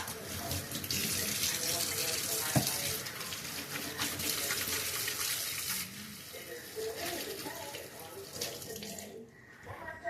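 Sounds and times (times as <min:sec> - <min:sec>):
tap water running into sink: 0:00.0 - 0:09.2.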